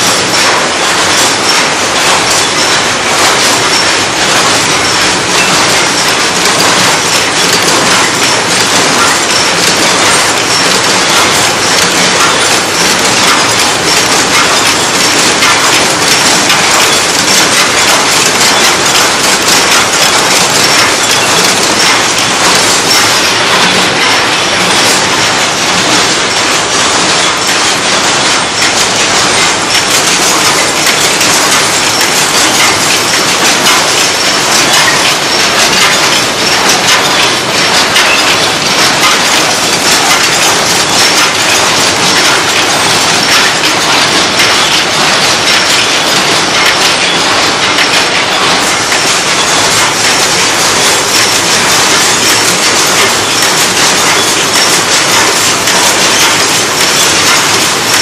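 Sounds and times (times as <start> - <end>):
machine clattering: 0.0 - 58.0.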